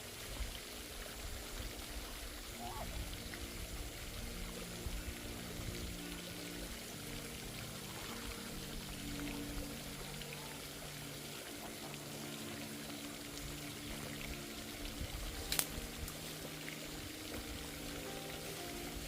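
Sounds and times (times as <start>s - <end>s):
water pouring and trickling: 0.0s - 19.0s.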